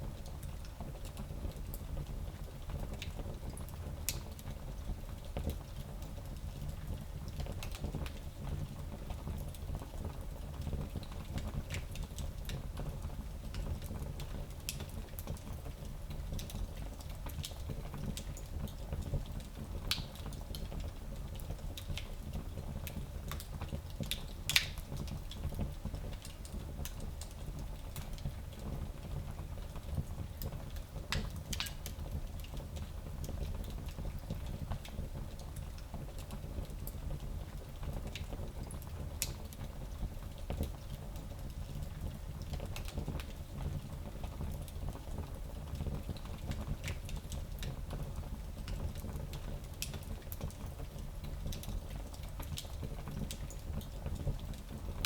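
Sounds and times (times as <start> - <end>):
fire crackles and pops: 0.1 - 55.0.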